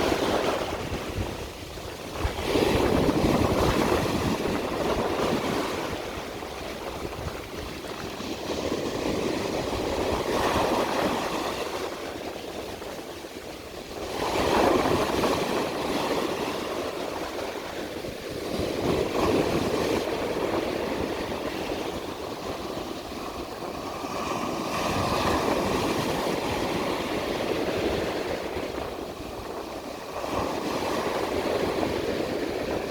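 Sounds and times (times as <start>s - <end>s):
ocean waves breaking: 0.0s - 32.9s.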